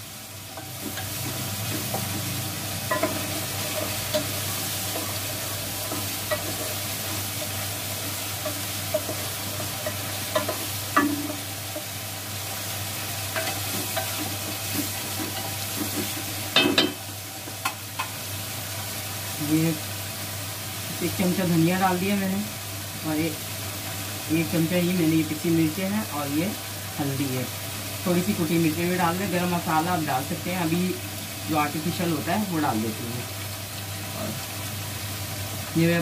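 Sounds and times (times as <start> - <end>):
meat sizzling in hot oil: 0.0 - 36.0.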